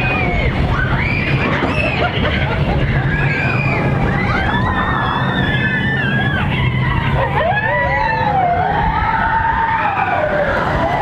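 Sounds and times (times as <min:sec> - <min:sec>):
riders screaming and whooping: 0:00.0 - 0:11.0
roller coaster rumbling on track: 0:00.0 - 0:11.0.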